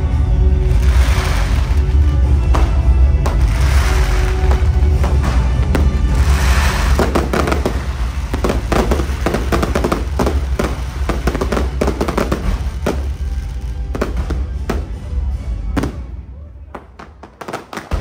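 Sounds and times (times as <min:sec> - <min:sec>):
loud music with bass: 0:00.0 - 0:16.3
fireworks popping and banging: 0:00.6 - 0:18.0.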